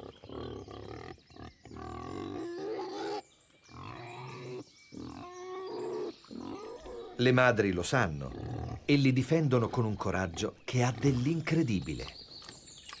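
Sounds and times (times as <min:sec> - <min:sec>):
wild boar grunting: 0:00.0 - 0:12.1.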